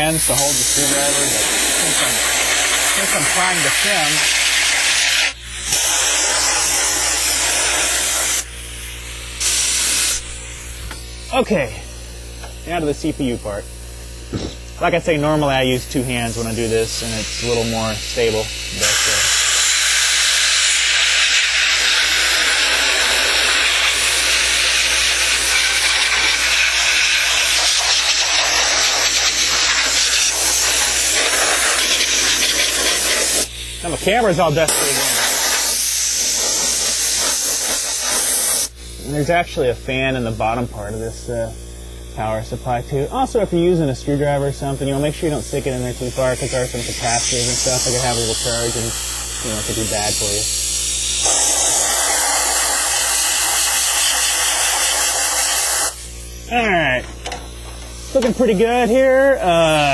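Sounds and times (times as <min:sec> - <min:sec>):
compressed air blow gun hissing: 0:00.0 - 0:12.9, 0:16.0 - 0:39.2, 0:44.8 - 0:58.9.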